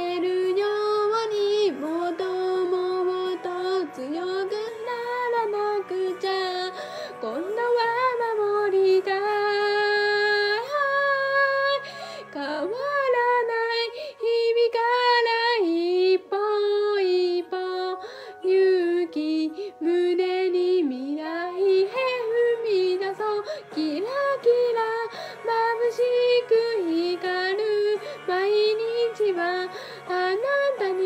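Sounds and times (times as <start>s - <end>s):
woman singing pop song: 0.0s - 31.0s.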